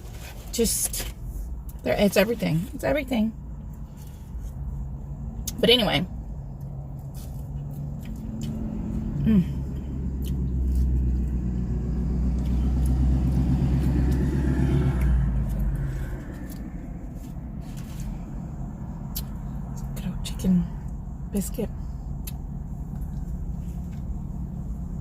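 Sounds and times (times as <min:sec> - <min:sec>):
car engine rumble: 0:00.0 - 0:25.0.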